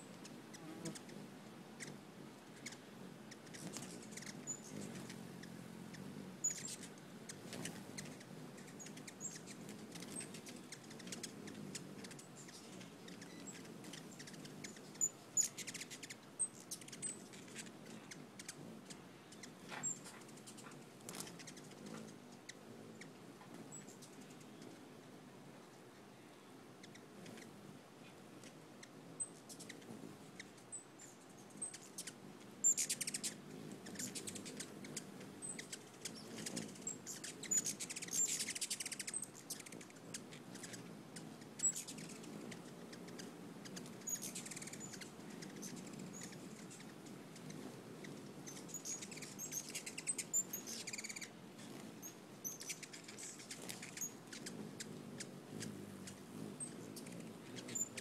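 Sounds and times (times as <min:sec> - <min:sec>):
hummingbird chip notes: 0:00.0 - 0:24.8, 0:26.8 - 0:27.7, 0:28.4 - 0:58.0
hummingbird wings whirring: 0:00.0 - 0:25.8, 0:26.8 - 0:58.0
hummingbird buzzy chatter: 0:00.0 - 0:58.0.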